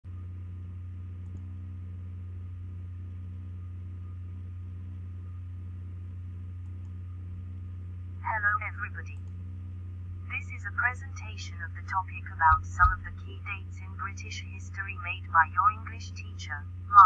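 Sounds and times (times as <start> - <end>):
low electrical hum: 0.1 - 17.0.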